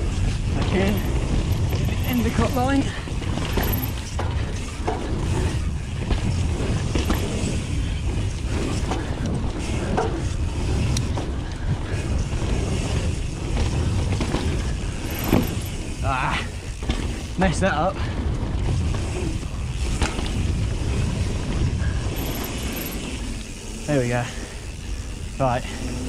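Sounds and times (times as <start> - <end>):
bike clicks and rattles: 0.0 - 26.0
tyre noise on dirt: 0.0 - 26.0
wind rumble on microphone: 0.0 - 26.0.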